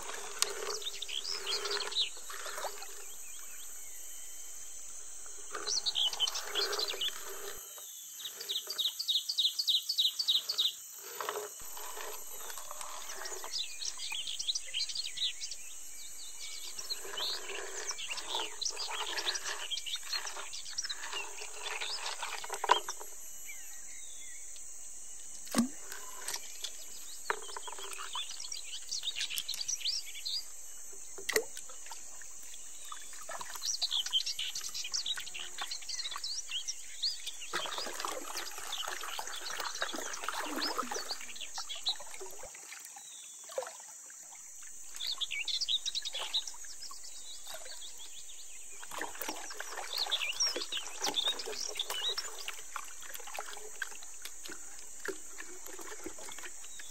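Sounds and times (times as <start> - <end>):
water swishing in a pan: 0.0 - 4.0, 11.1 - 15.4, 16.3 - 23.2, 25.5 - 56.9
birds chirping: 0.0 - 42.4, 44.5 - 56.9
high insect drone: 0.0 - 56.9.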